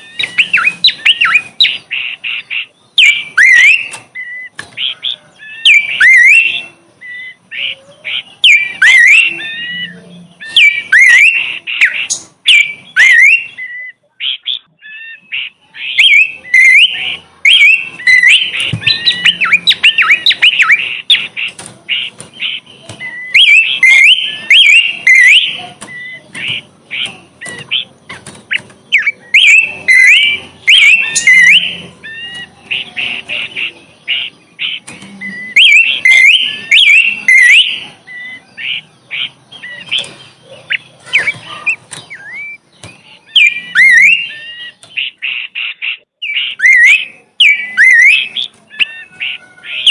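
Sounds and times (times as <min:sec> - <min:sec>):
songbird chirping and twittering: 0:00.0 - 0:49.9.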